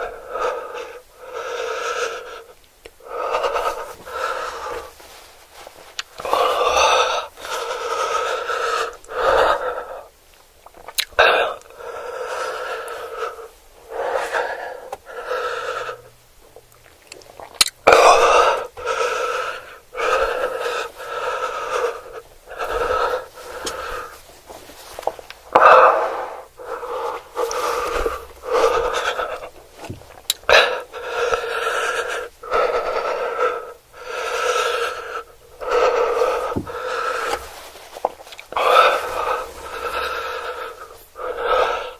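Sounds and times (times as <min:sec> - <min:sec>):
person making rasping breath sounds: 0:00.0 - 0:05.2, 0:06.0 - 0:10.2, 0:10.8 - 0:41.9.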